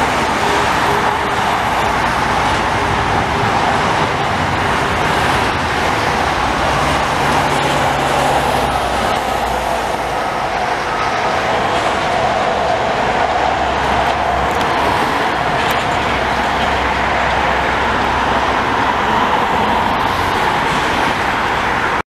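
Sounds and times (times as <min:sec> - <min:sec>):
highway traffic passing: 0:00.0 - 0:22.0
train wheels on rail: 0:00.0 - 0:22.0.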